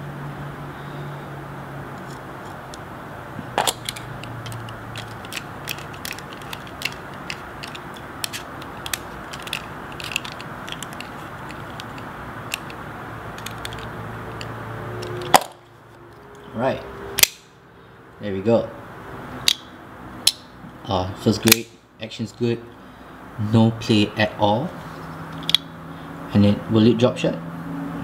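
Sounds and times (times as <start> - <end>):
steady low hum: 0.0 - 26.7.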